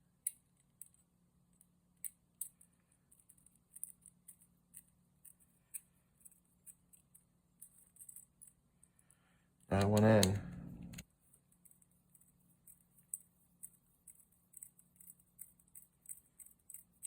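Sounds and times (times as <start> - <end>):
small metallic clicks and scrapes: 0.2 - 17.0.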